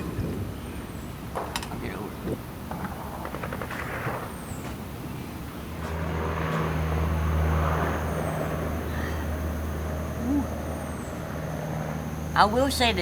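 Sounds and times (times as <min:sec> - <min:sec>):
distant engine drone: 0:00.0 - 0:13.0.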